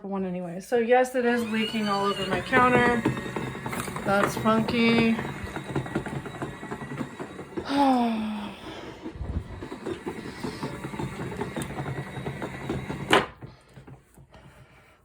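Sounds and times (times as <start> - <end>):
washing machine clattering: 1.2 - 14.0.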